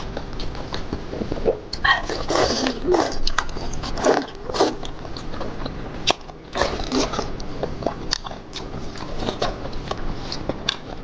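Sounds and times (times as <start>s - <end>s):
biting and chewing seafood: 0.0s - 11.0s.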